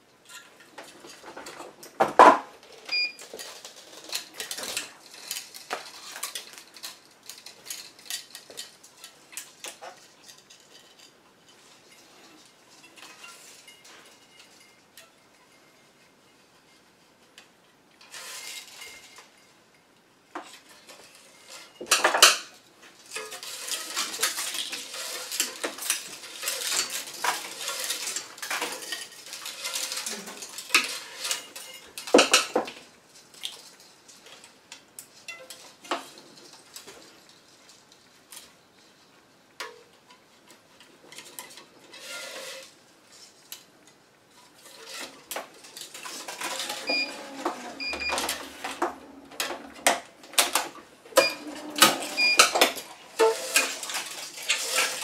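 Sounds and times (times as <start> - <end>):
metallic clinking and scraping: 2.6 - 55.0.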